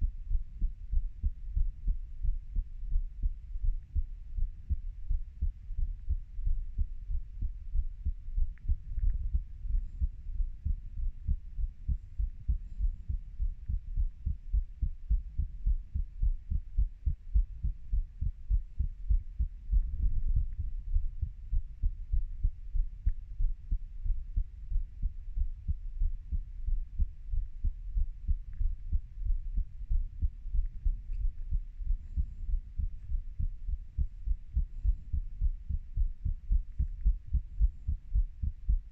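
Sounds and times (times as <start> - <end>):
human heartbeat: 0.0 - 38.9.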